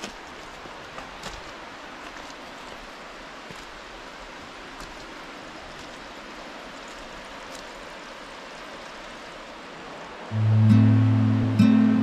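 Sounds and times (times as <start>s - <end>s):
distant waterfall rushing: 0.0s - 12.0s.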